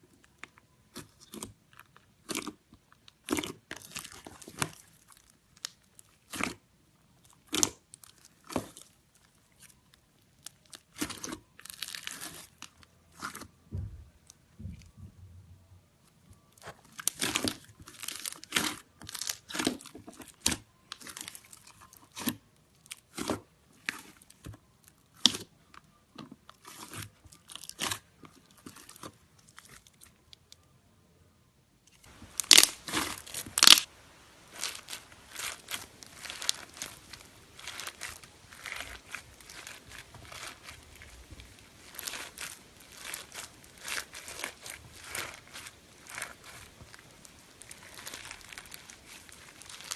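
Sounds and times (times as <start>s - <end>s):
slime crackling and popping: 0.3s - 6.6s, 7.2s - 14.4s, 16.6s - 25.5s, 26.2s - 30.2s, 32.0s - 49.9s.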